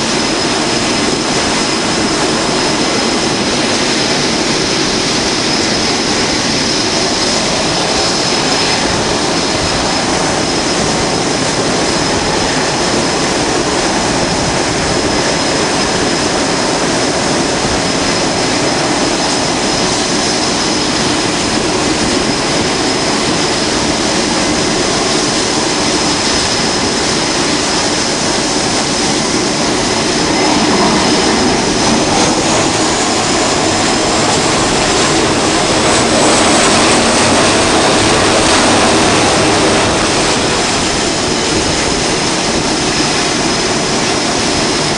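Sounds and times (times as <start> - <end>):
fighter jet engines roaring: 0.0 - 44.9.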